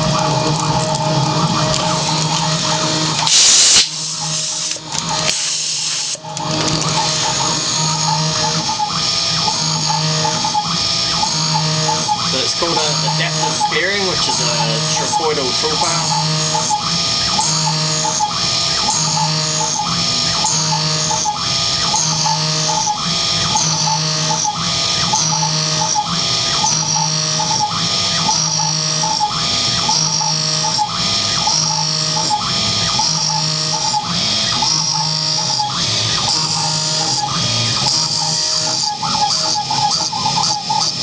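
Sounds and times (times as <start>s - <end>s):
milling machine cutting: 0.0s - 41.0s
motor whine cycling up and down: 0.0s - 41.0s.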